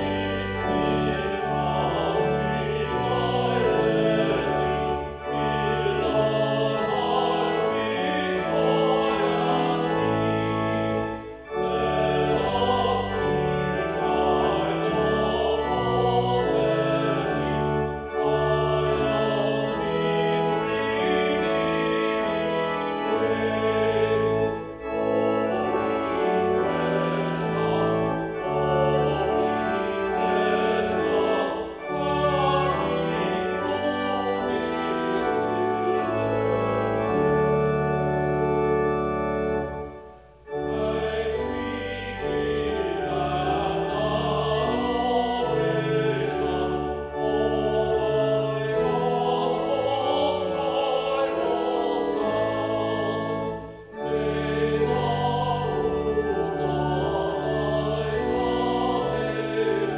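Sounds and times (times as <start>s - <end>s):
man singing a hymn: 0.0s - 39.8s, 40.5s - 59.9s
organ chords: 0.0s - 59.9s.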